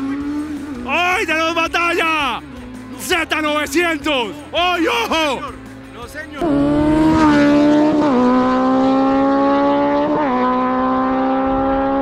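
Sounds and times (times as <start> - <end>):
motorcycle engines at full throttle: 0.0 - 12.0.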